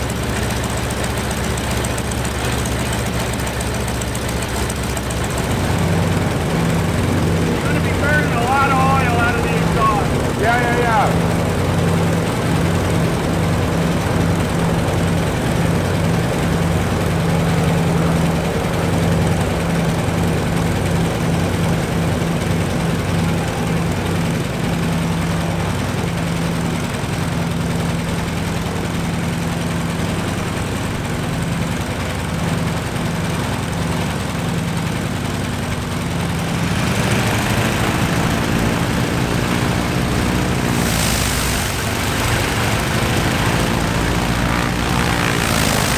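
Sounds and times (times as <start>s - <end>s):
radial aircraft engine running: 0.0s - 45.9s.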